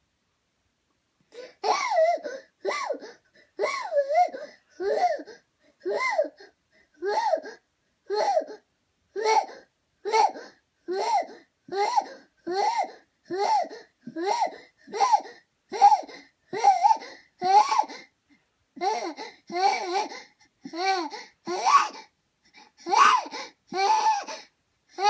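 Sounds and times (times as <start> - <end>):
infant crying outbursts: 1.4 - 18.1, 18.8 - 25.0.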